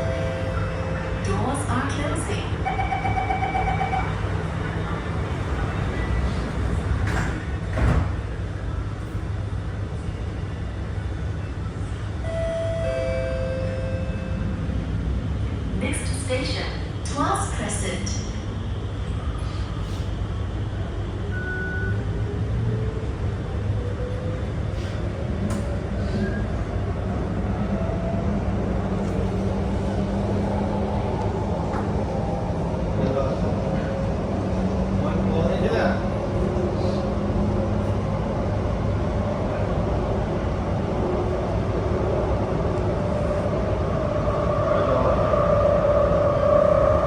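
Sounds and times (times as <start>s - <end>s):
train wheels rumbling on track: 0.0s - 12.2s, 14.5s - 47.0s.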